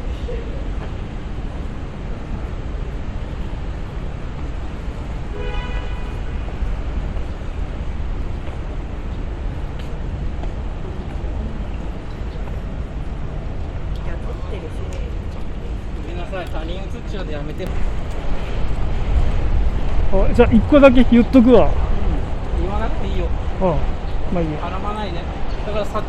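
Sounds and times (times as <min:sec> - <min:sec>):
low traffic rumble: 0:00.0 - 0:26.0.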